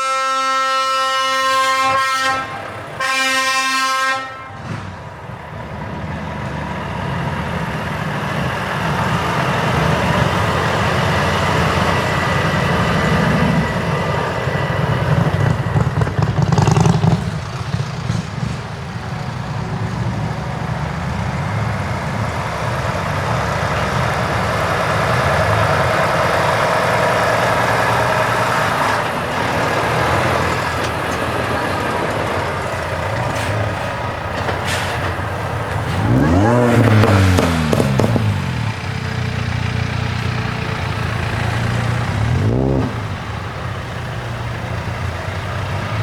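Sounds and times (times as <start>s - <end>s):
truck engine revving: 0.0s - 46.0s
trucks rolling past: 0.0s - 46.0s.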